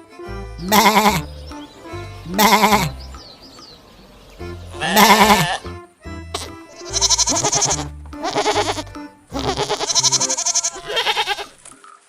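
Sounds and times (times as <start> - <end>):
tremulous bleats: 0.4 - 3.2, 3.8 - 11.6.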